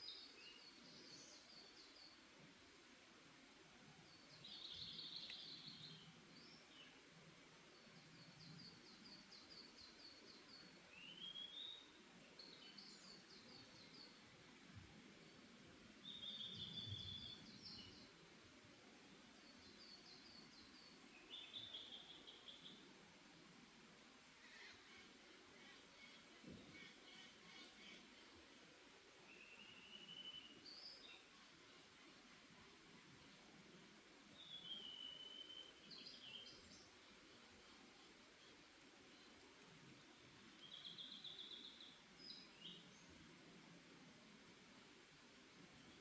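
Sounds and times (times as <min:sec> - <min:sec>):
soft forest ambience hiss: 0:00.0 - 0:46.0
songbird chirping: 0:00.0 - 0:46.0.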